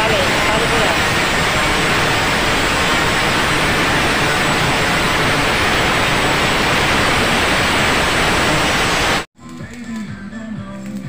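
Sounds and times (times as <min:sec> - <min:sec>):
loud rushing hiss: 0:00.0 - 0:09.3.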